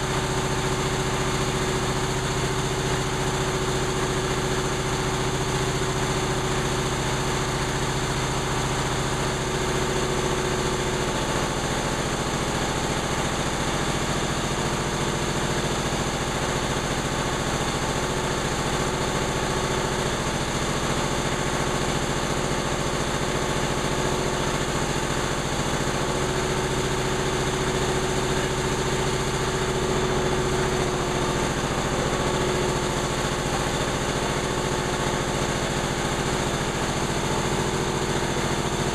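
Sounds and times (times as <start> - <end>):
diesel compressor running: 0.0 - 38.9.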